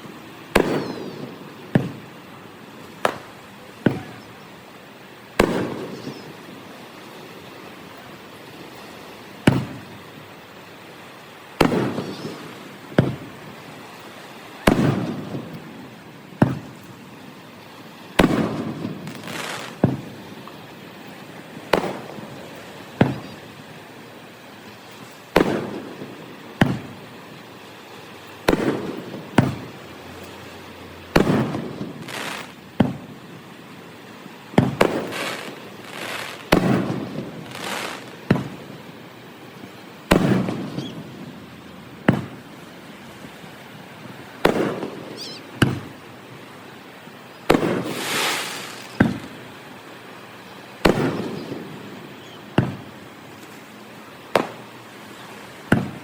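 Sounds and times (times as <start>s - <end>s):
fireworks bursting with echoing bangs: 0.0s - 10.4s, 11.0s - 46.5s, 47.4s - 49.9s, 50.7s - 54.8s, 55.6s - 56.0s.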